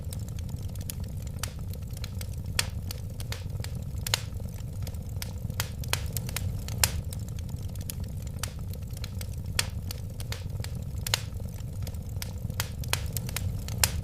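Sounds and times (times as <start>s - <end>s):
flames rumbling: 0.0s - 14.0s
wood fire pops and snaps: 0.0s - 14.0s.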